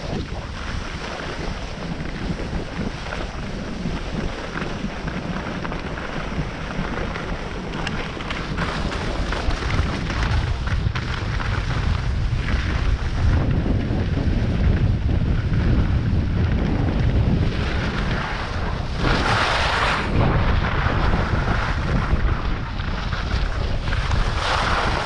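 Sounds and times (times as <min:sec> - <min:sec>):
ski edges scraping snow: 0:00.0 - 0:13.4, 0:17.4 - 0:25.0
wind buffeting microphone: 0:00.0 - 0:25.0.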